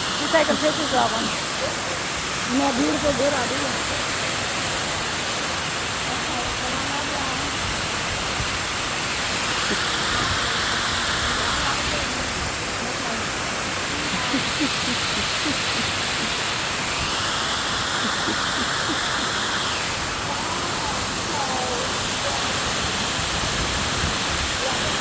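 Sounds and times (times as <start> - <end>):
water feature falling water: 0.0 - 25.0
faint voices: 0.1 - 16.8, 17.8 - 25.0.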